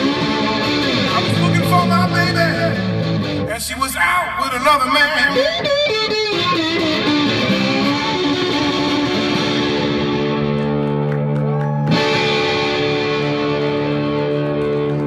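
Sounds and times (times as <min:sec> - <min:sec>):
distorted electric guitar: 0:00.0 - 0:15.0.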